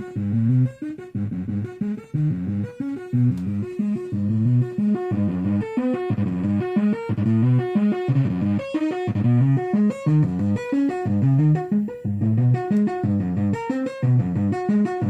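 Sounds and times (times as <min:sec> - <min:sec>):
distorted synth notes: 0:00.0 - 0:15.0.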